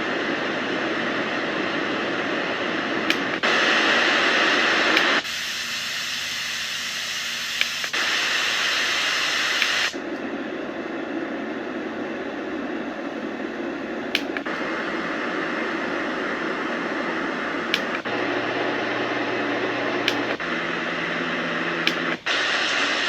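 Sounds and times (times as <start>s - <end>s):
white noise machine hiss: 0.0s - 23.0s.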